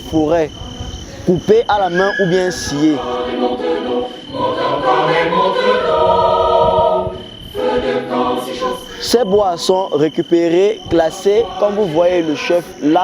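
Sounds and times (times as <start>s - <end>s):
crickets chirping: 0.0s - 13.0s
group singing in chorus: 0.0s - 13.0s.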